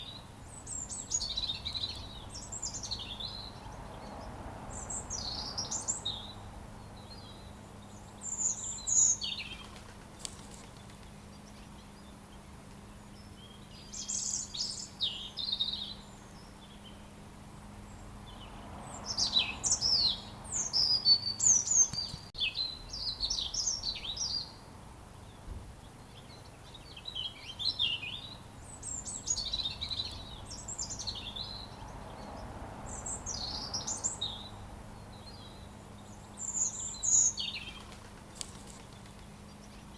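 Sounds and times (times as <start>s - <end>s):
robin singing: 0.0s - 9.8s, 10.4s - 17.2s, 17.9s - 39.9s.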